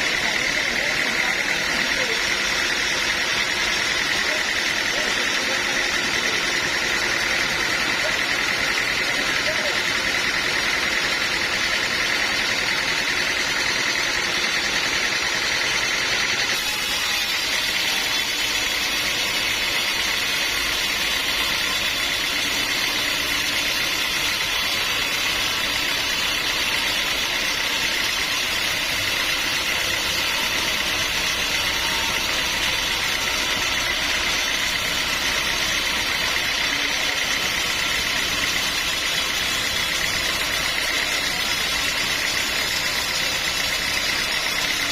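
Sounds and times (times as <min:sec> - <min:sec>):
high machine whine: 0:00.0 - 0:44.9
sawmill machinery drone: 0:00.0 - 0:44.9.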